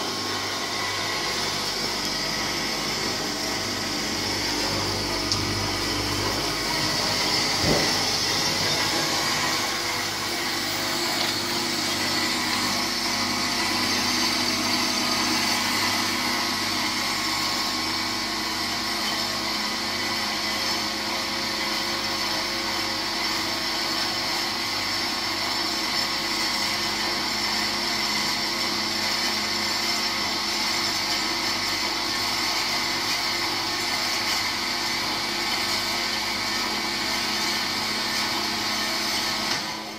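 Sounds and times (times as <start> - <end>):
band saw motor hum and whine: 0.0 - 39.9.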